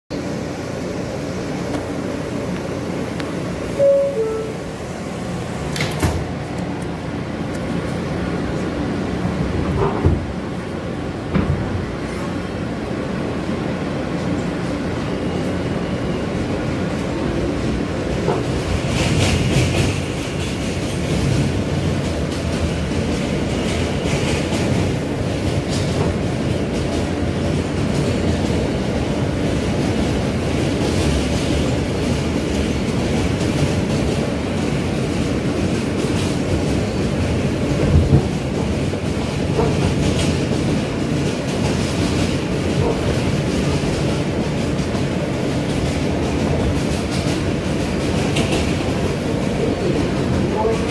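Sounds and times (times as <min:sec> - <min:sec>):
train wheels rumbling on rail: 0:00.1 - 0:50.9
loud train clack: 0:01.6 - 0:50.9.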